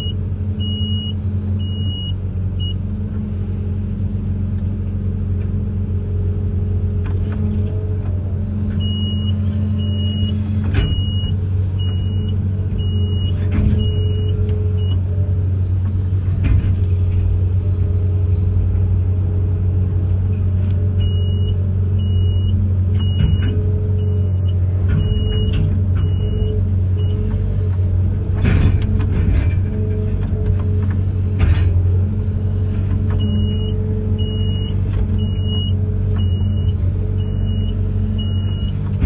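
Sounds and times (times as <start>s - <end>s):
excavator engine droning: 0.0s - 39.0s.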